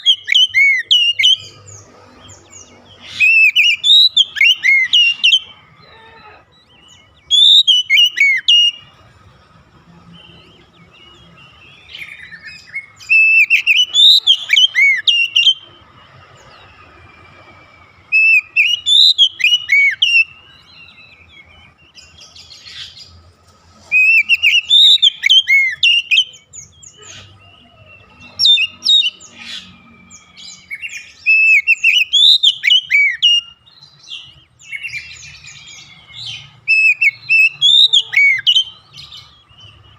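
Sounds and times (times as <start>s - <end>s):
bird singing whistled phrases: 0.0s - 1.7s, 3.0s - 5.6s, 6.2s - 8.9s, 11.4s - 15.7s, 18.0s - 23.0s, 23.9s - 39.9s.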